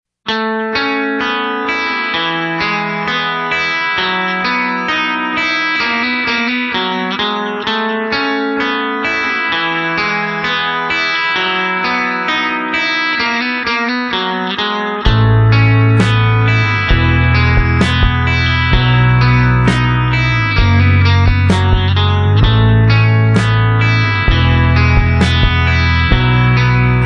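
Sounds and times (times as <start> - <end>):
plucked guitar run of notes: 0.3 - 27.0.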